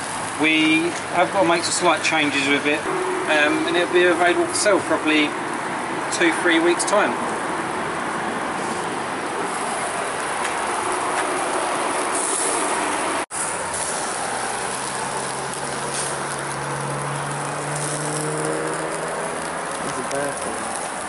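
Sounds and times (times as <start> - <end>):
sausages sizzling on grill: 0.0 - 21.0.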